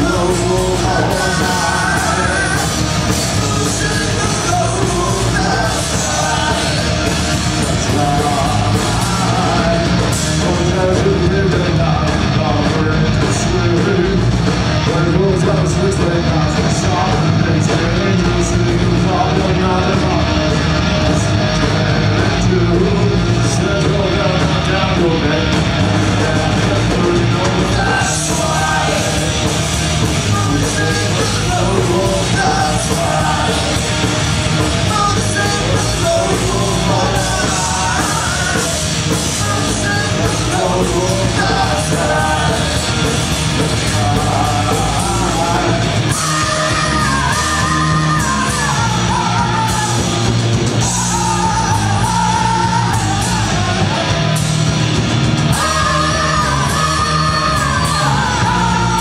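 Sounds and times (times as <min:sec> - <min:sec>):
shouted vocals: 0:00.0 - 0:12.9, 0:22.2 - 0:59.0
bass guitar: 0:00.0 - 0:59.0
distorted electric guitar: 0:00.0 - 0:59.0
drums: 0:00.0 - 0:59.0.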